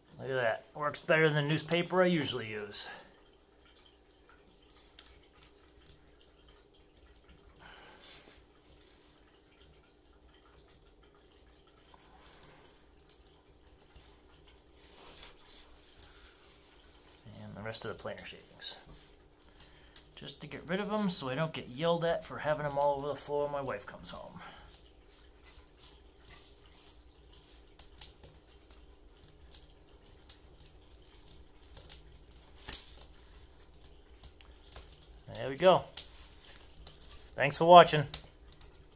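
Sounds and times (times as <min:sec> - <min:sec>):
fire crackling and popping: 0:00.1 - 0:38.9.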